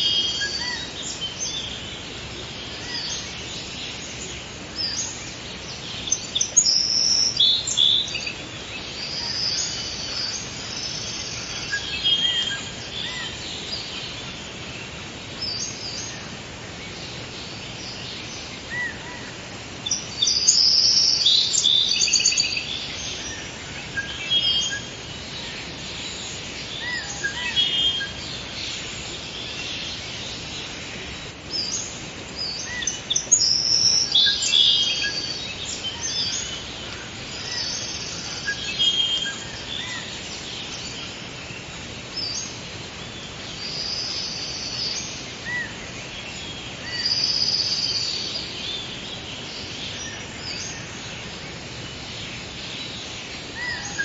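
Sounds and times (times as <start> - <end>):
birds chirping and trilling: 0.0 - 54.0
steady background hiss: 0.0 - 54.0.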